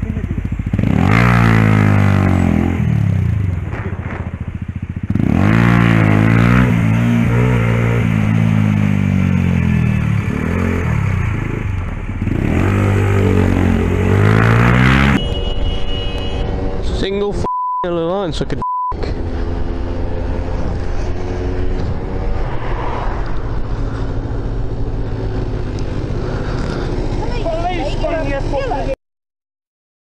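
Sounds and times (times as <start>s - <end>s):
motorcycle engine revving: 0.0s - 17.4s, 19.0s - 29.0s.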